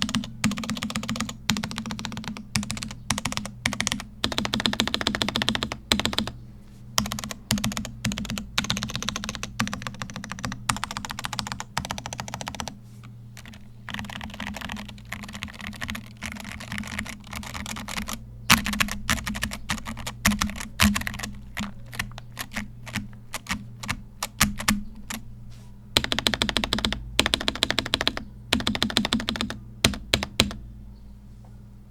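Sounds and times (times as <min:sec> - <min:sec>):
typing on mechanical keyboard: 0:00.0 - 0:06.4, 0:07.0 - 0:12.8, 0:13.4 - 0:25.2, 0:26.0 - 0:30.6.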